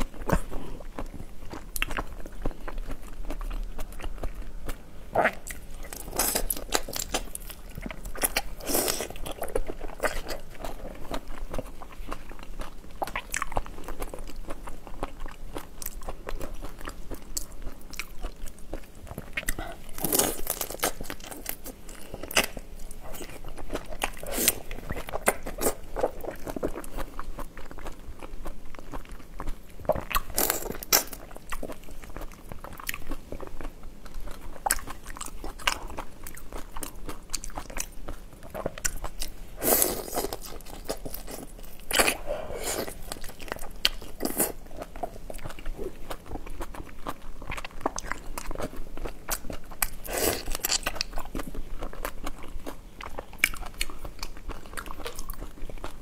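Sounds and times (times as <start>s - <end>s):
wet chewing: 0.0s - 56.0s.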